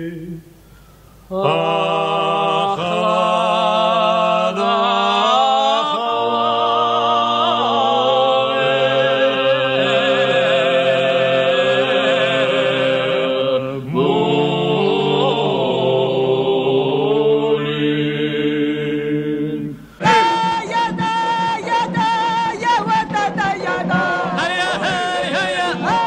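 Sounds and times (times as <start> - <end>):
voices singing in harmony: 0.0 - 0.6, 1.2 - 26.0.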